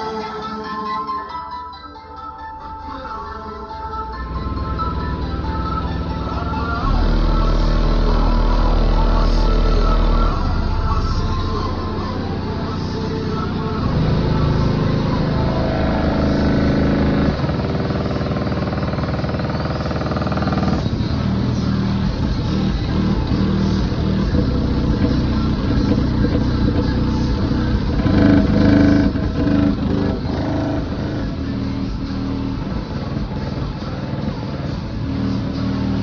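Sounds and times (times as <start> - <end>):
loud bass-heavy music: 0.0 - 36.0.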